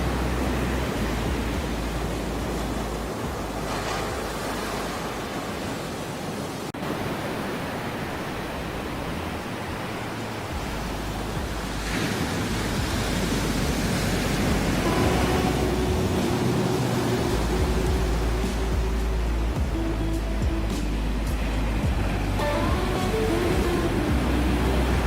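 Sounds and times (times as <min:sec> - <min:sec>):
ocean waves washing: 0:00.0 - 0:25.0
wave breaking: 0:00.0 - 0:25.0.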